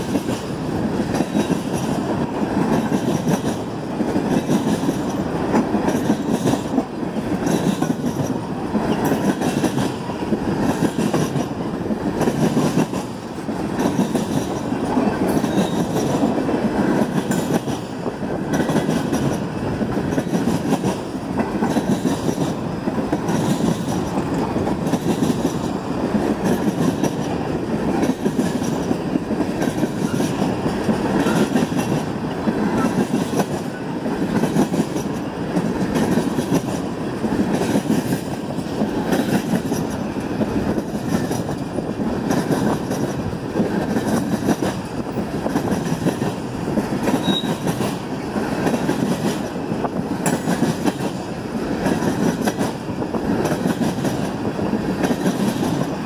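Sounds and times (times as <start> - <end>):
train wheels clickety-clack on rails: 0.0 - 56.0.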